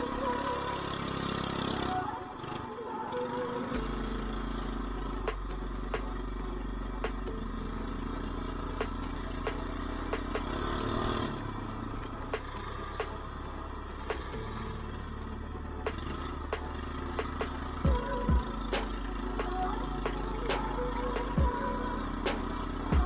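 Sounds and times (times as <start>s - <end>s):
mini bike engine running: 4.4s - 23.0s.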